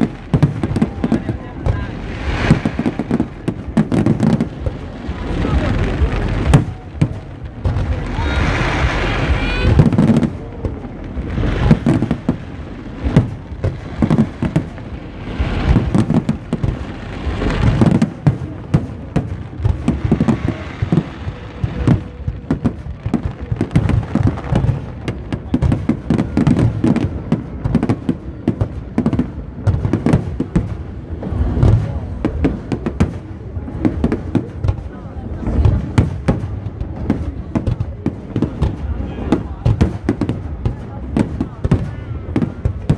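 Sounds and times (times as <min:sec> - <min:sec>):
continuous low rumble: 0:00.0 - 0:42.9
fireworks bangs and crackles: 0:00.0 - 0:42.9.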